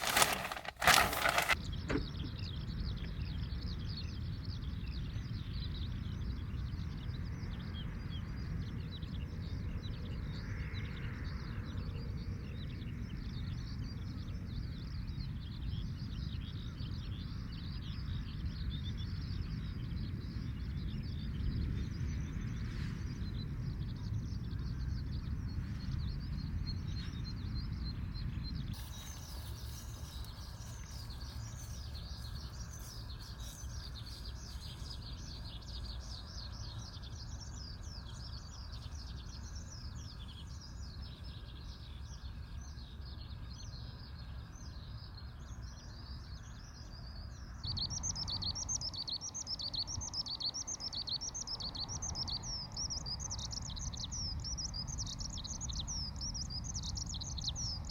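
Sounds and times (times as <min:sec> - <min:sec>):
skylarks singing: 0:00.0 - 0:57.9.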